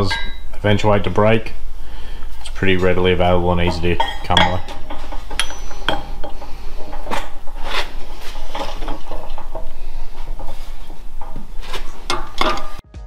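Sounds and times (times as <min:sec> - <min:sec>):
metallic clinks and knocks: 0:00.0 - 0:00.6, 0:02.8 - 0:12.8
steady low hum: 0:00.0 - 0:12.8.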